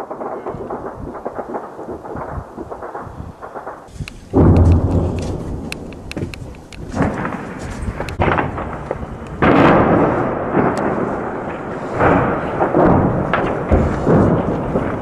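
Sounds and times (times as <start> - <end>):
explosions with rolling echo: 0.0 - 15.0
gunfire cracks: 0.0 - 15.0.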